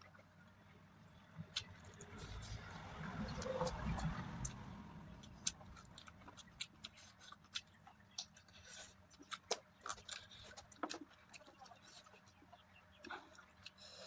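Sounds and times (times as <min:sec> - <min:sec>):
person chewing food: 0:01.5 - 0:14.0.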